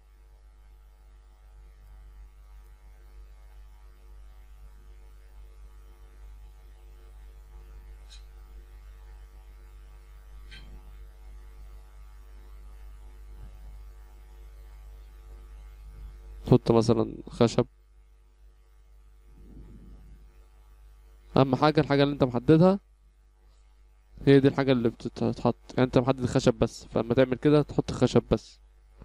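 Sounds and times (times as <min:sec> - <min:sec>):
mains hum: 0:00.0 - 0:29.0.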